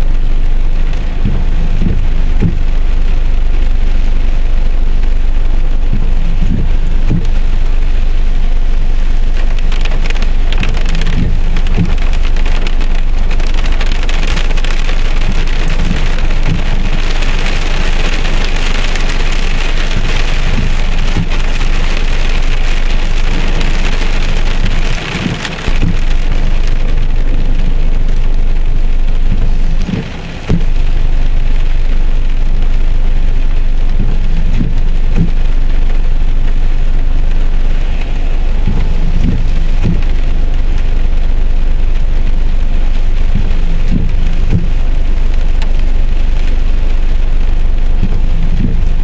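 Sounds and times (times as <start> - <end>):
heavy rain on car windshield: 0.0 - 49.0.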